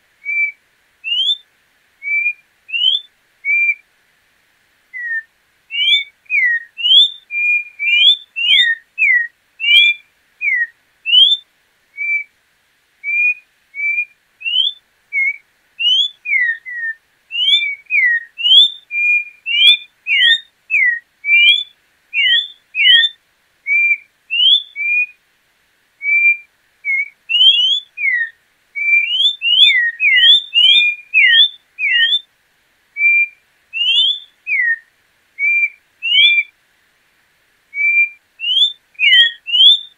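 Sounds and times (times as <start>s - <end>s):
bird singing whistled notes: 0.2s - 3.8s, 4.9s - 12.3s, 13.0s - 25.2s, 26.0s - 32.3s, 33.0s - 36.5s, 37.7s - 39.9s.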